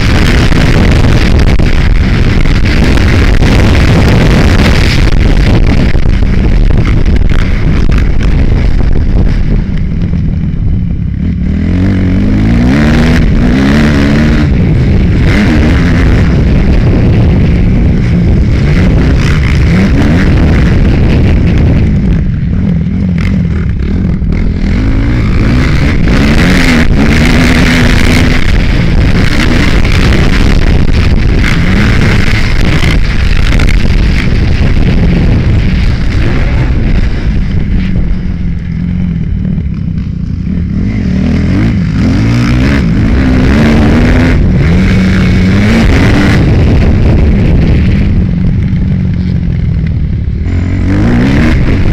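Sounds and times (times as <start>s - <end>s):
motocross engine revving: 0.0s - 9.8s, 11.0s - 48.6s, 50.3s - 51.9s
rushing wind noise: 0.0s - 51.9s.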